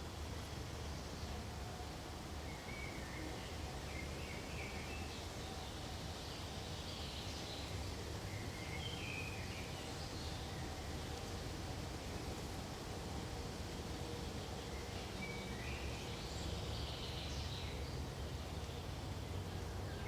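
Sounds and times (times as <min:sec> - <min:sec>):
low background rumble and hiss: 0:00.0 - 0:20.0.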